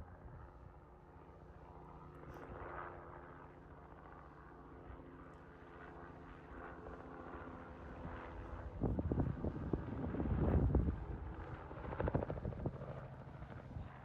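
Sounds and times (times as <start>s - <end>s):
distant helicopter hum: 0.0s - 14.0s.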